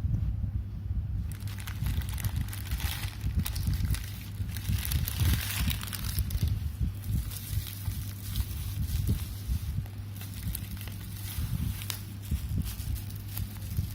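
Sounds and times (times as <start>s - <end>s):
steady low hum: 0.0s - 13.9s
packaging crinkling and rustling: 1.3s - 13.9s.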